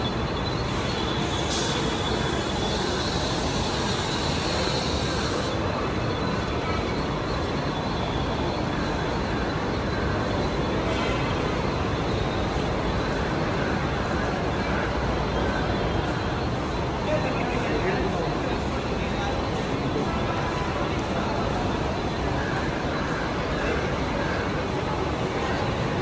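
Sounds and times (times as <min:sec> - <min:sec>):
electric train standing: 0:00.0 - 0:17.1, 0:18.1 - 0:26.0
faint high whine: 0:00.0 - 0:26.0.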